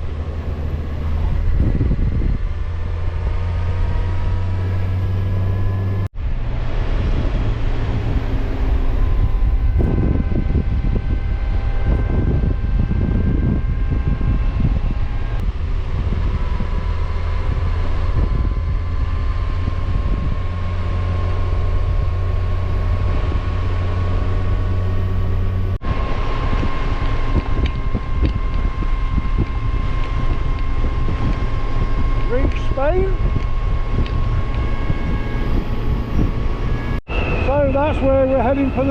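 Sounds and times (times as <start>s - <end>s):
motorcycle engine hum: 0.0s - 38.9s
wind rushing over microphone: 0.0s - 38.9s.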